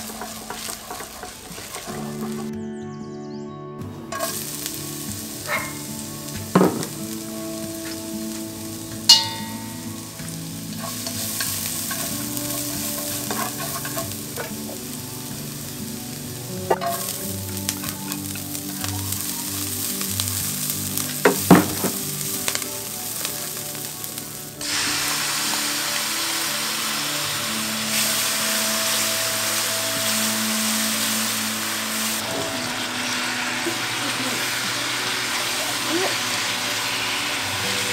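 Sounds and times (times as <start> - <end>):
sizzling in oil: 0.0 - 2.5, 4.1 - 37.9.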